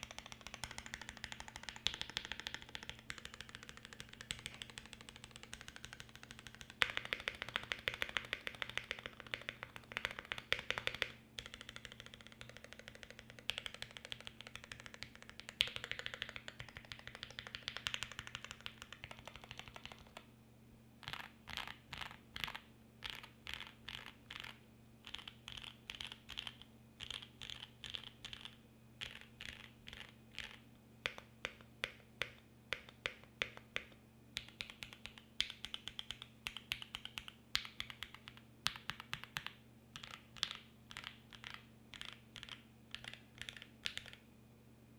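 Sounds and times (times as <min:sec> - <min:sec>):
mechanical keyboard typing: 0:00.0 - 0:20.2, 0:21.0 - 0:44.2.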